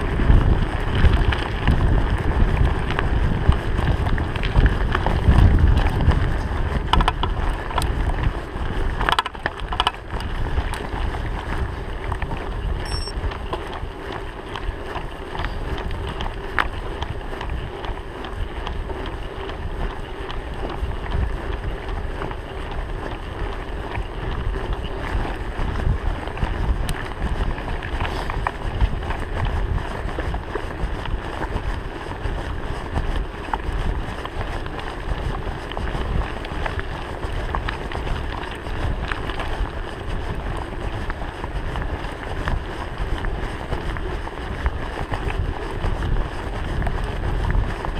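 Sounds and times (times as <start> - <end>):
bike rattling over bumps: 0.0 - 47.9
tyres rolling on gravel: 0.0 - 47.9
wind buffeting microphone: 0.0 - 47.9.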